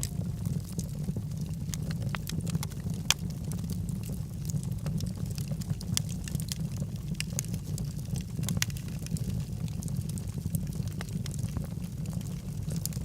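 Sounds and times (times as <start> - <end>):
logs crackling in a fireplace: 0.0 - 13.0.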